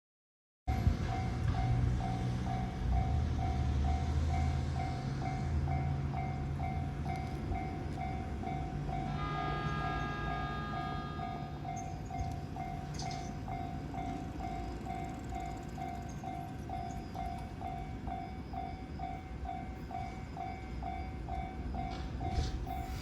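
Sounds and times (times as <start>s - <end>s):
electric train rumbling: 0.7s - 23.0s.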